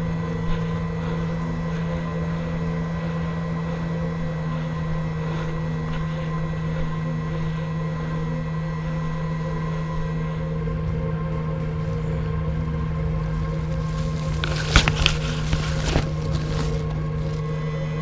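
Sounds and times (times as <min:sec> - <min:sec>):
ambient background music: 0:00.0 - 0:18.0.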